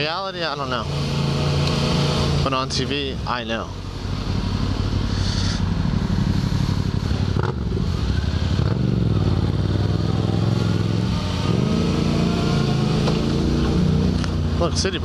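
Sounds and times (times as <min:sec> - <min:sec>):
motorcycle engine running: 0:00.6 - 0:15.0.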